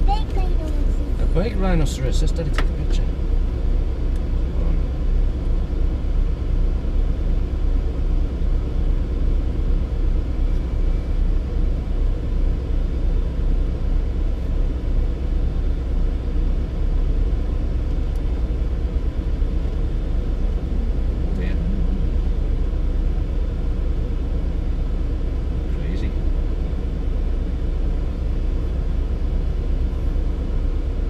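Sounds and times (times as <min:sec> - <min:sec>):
car cabin rumble: 0:00.0 - 0:31.0.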